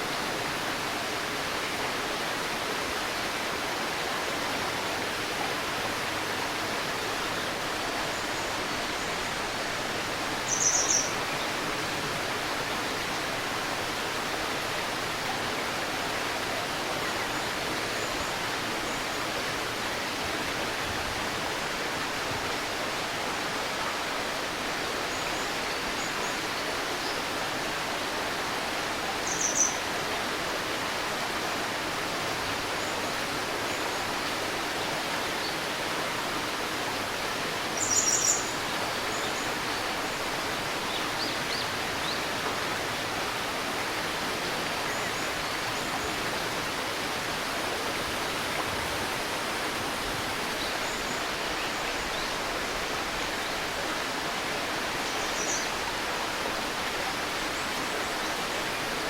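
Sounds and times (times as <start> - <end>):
river babbling: 0.0 - 59.0.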